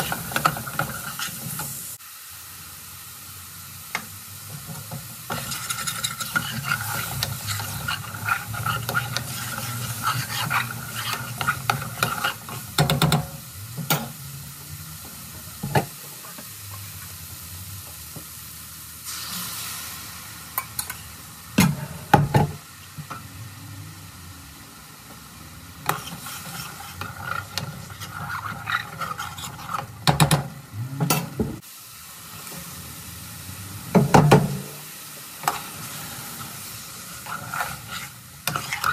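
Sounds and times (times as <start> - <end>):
curry sizzling in a pan: 0.0 - 38.9.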